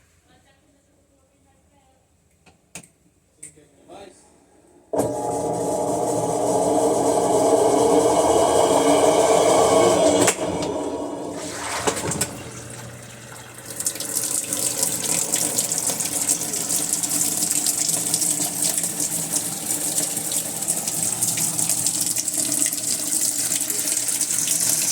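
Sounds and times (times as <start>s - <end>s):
water rushing in washing machine: 5.0s - 24.9s.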